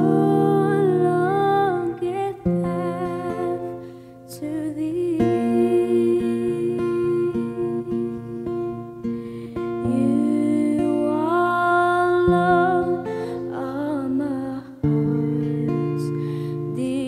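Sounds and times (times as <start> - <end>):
acoustic guitar strumming: 0.0 - 17.0
woman singing: 0.0 - 17.0.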